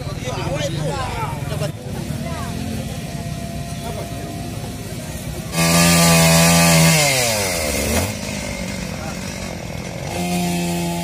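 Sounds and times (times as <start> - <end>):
chainsaw revving: 2.0 - 11.0.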